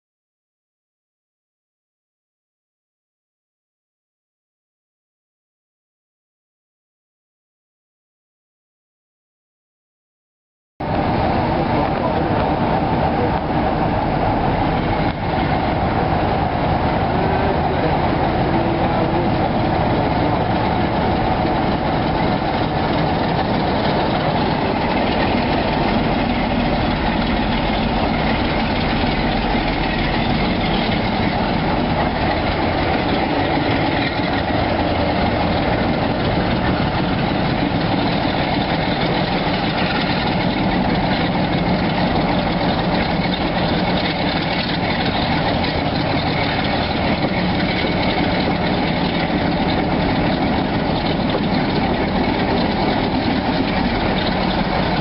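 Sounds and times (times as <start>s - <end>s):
diesel locomotive engine under load: 10.8s - 55.0s
train running on rails: 10.8s - 55.0s.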